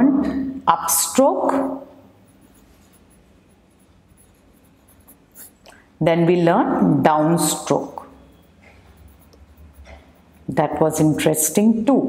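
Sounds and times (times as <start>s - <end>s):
pen scratching on paper: 0.9s - 5.6s, 7.0s - 12.0s.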